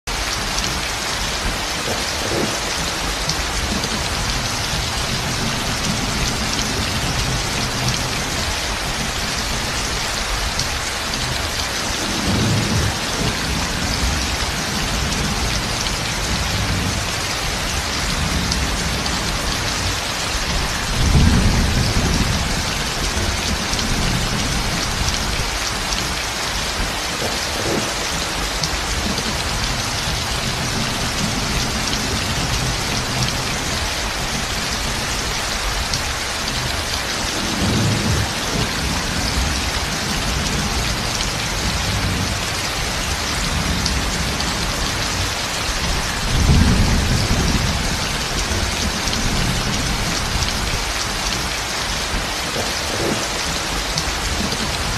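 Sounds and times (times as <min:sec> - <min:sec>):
heavy rain on tin roofs: 0:00.0 - 0:54.9
low thunder rumbling: 0:00.2 - 0:54.9.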